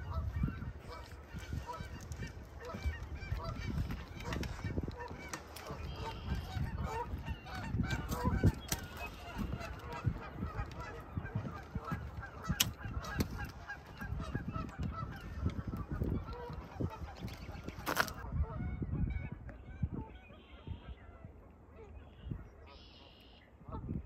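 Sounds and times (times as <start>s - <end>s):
geese honking: 0.0s - 24.0s.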